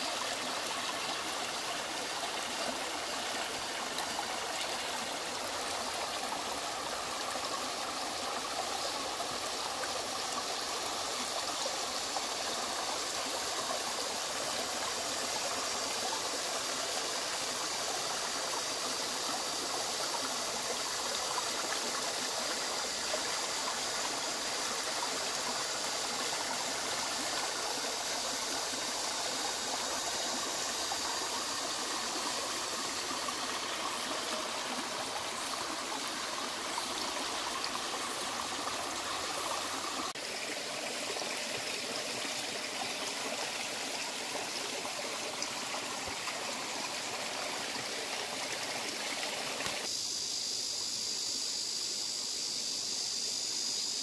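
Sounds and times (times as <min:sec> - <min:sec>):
stream splashing over stones: 0:00.0 - 0:49.9.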